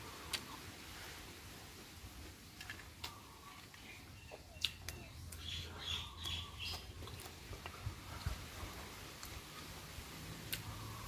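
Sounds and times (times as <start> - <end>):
chewing and crunching food: 0.0 - 11.0.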